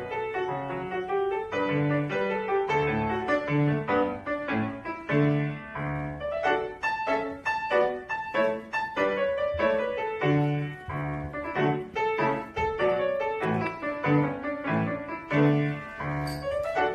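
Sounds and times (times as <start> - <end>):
solo piano lively piece: 0.0 - 16.9.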